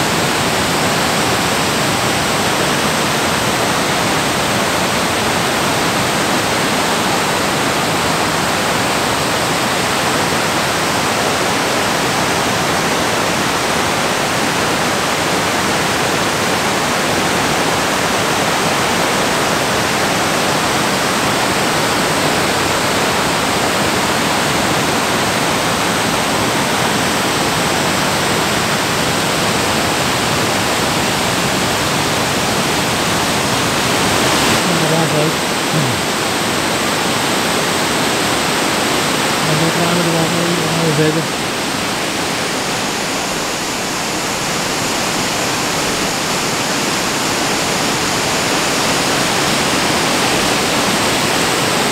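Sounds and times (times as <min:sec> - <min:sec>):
rapids and waterfall rushing: 0:00.0 - 0:51.9.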